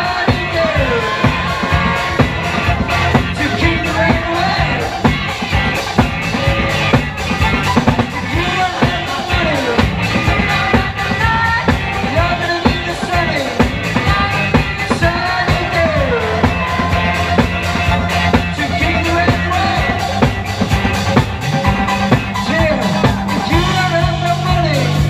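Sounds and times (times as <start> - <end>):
bass guitar: 0.0 - 25.0.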